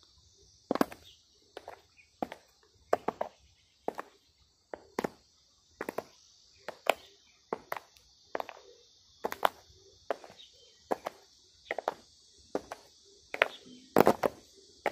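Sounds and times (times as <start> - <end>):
steady high hiss: 0.0 - 14.9.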